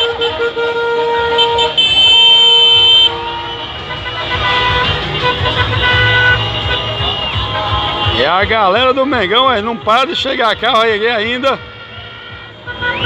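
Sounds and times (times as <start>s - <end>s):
car horns honking: 0.0s - 13.0s.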